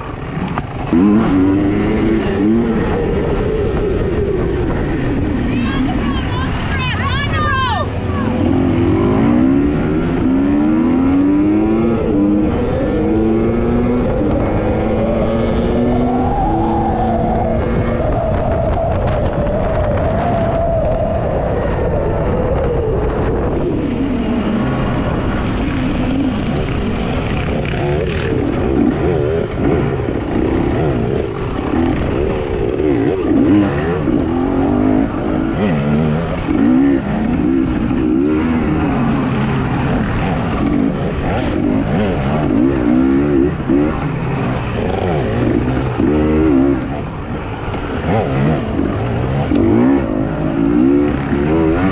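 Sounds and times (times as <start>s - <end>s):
racing engine revving: 0.0s - 4.0s, 4.6s - 18.3s, 23.5s - 51.9s.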